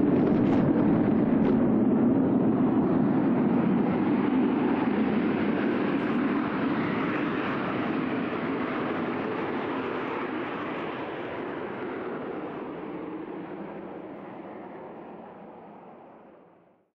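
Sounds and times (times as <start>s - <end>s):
jet aircraft taking off: 0.0s - 16.8s.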